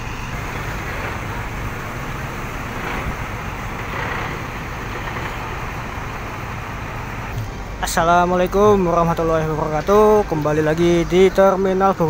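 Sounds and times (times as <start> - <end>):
diesel bus engines rumbling: 0.0 - 12.0
traffic noise: 0.0 - 12.0.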